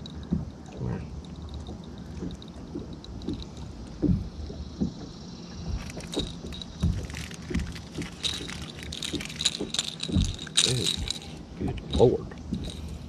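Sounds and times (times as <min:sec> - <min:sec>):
small waves slapping boat hull: 0:00.0 - 0:13.0.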